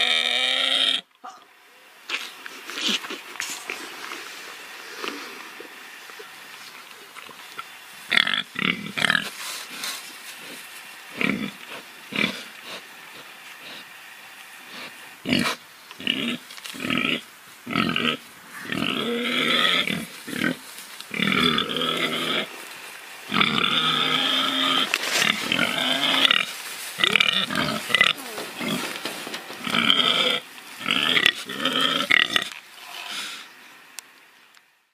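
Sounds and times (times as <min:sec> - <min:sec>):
pigs grunting: 0:00.0 - 0:01.1, 0:02.8 - 0:14.0, 0:14.6 - 0:33.4.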